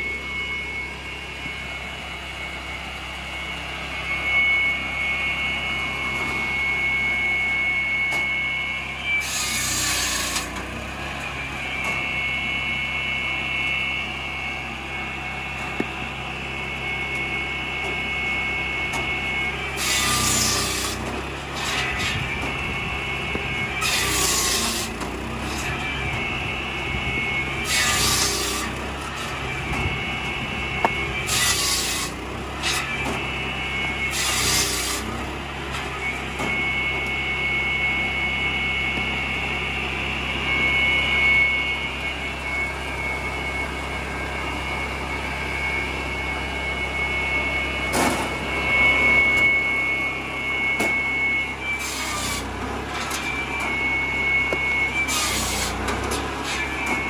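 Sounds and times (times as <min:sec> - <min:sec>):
circular saw blade whining: 0:00.0 - 0:57.0
saw cutting through log: 0:03.9 - 0:57.0.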